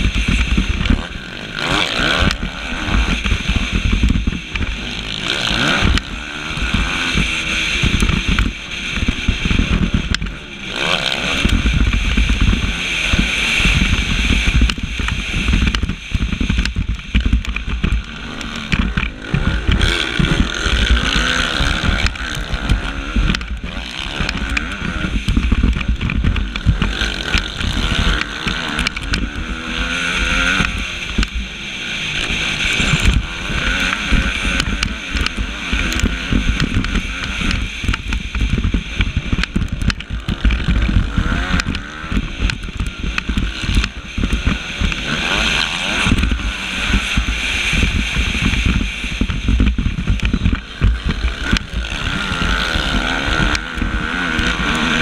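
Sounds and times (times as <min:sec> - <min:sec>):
motocross bike engine revving: 0:00.0 - 0:55.0
steady rushing noise: 0:00.0 - 0:55.0.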